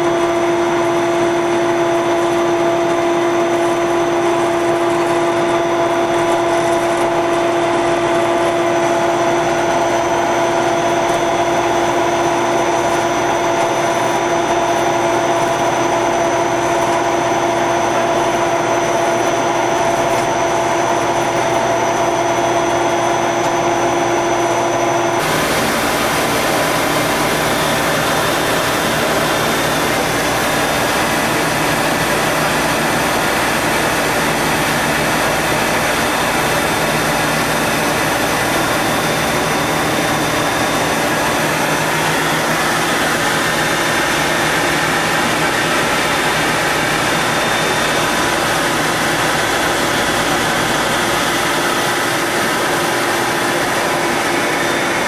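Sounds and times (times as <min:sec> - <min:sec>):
machine whirring and hissing: 0:00.0 - 0:55.0.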